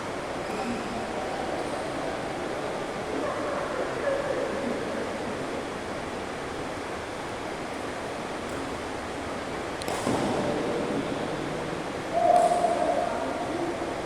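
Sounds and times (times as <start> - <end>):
badminton hall noise: 0.0 - 4.9, 5.6 - 13.9.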